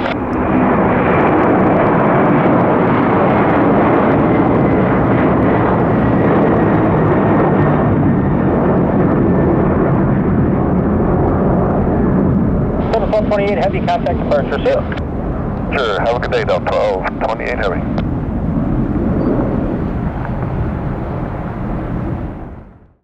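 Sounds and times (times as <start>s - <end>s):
jet engines roaring: 0.0s - 22.9s.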